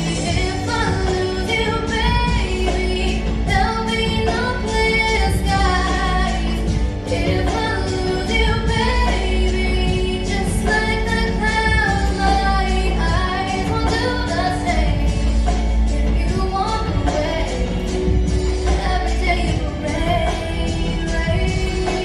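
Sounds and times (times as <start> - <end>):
backing track with bass line: 0.0 - 22.0
woman singing a pop ballad: 0.0 - 22.0.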